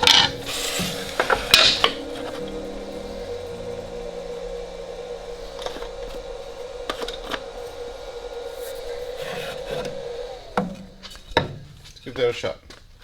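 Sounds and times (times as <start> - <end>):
shaper machine whine: 0.0 - 12.0.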